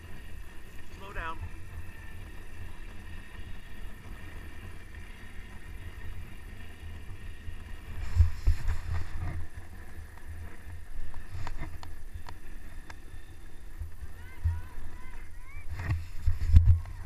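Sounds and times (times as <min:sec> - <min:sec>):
sled bumps: 0:00.0 - 0:17.0
sled runners scraping on snow: 0:00.0 - 0:17.0.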